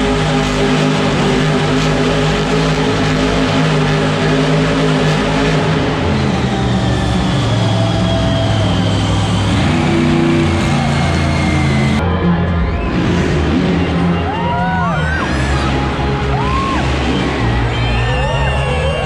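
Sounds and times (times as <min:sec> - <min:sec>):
monster truck engine running: 0:00.0 - 0:19.0.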